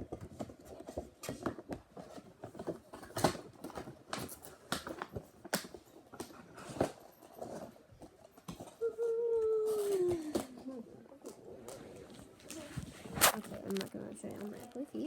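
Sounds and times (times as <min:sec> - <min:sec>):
objects being handled: 0:00.0 - 0:15.0.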